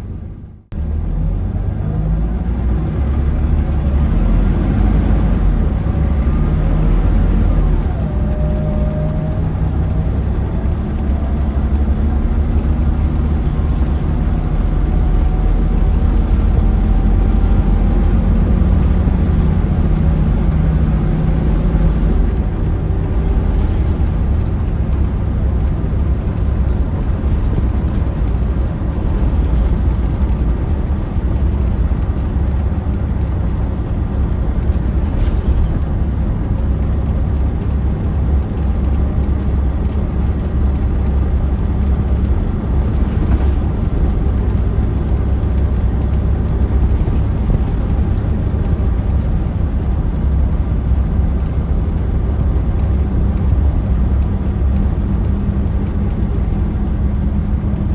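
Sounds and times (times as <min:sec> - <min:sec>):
bus engine rumble: 0:00.0 - 0:57.9
road noise: 0:00.0 - 0:57.9.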